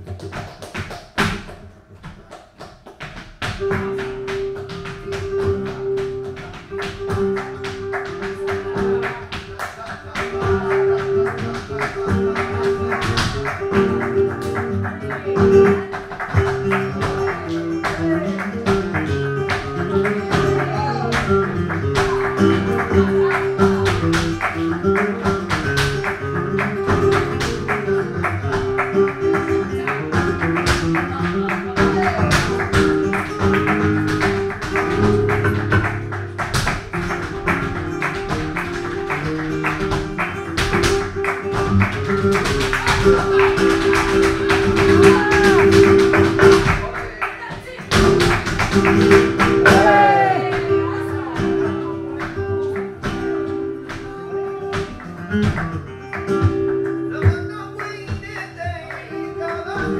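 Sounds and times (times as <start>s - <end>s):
dancer's footwork stamping: 0.0s - 59.9s
flamenco guitar playing: 0.0s - 59.9s
handclaps: 0.0s - 59.9s.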